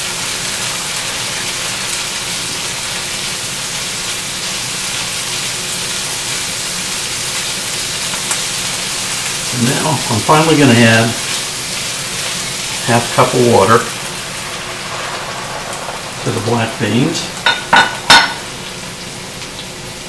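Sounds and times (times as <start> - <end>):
beans sizzling in a pan: 0.0 - 20.0.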